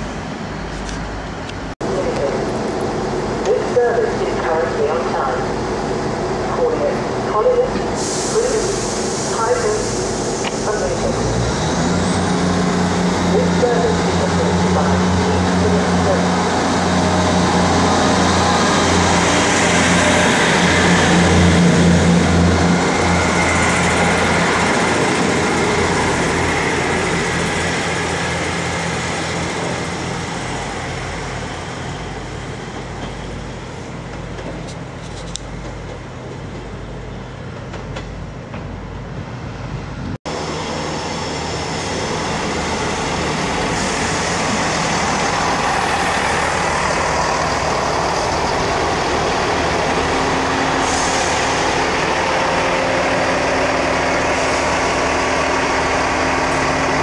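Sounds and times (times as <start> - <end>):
train diesel engines pulling away: 0.0 - 57.0
train passing: 0.0 - 57.0.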